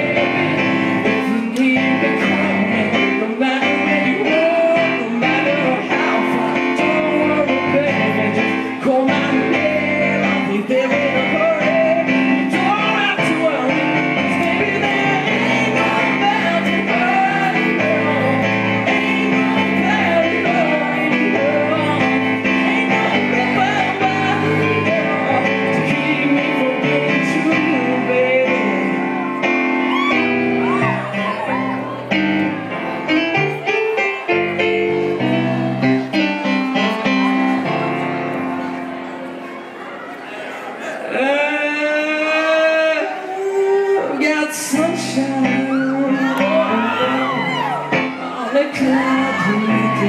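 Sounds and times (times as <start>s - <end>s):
man singing: 0.0s - 31.4s, 41.0s - 50.0s
digital piano chords: 0.0s - 50.0s.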